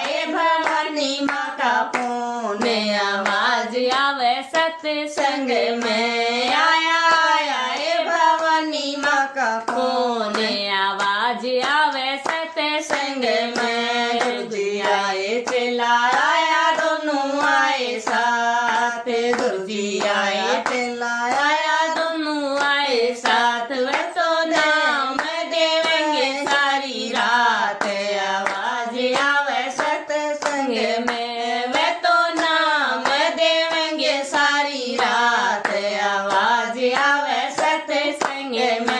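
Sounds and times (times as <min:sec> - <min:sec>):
rhythmic hand clapping: 0:00.0 - 0:38.9
woman singing devotional song: 0:00.0 - 0:38.9.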